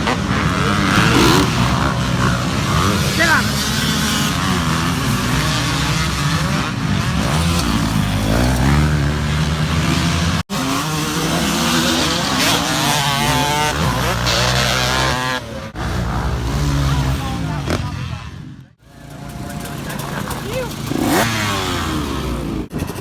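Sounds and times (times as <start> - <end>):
motocross bike engine revving: 0.0 - 23.0.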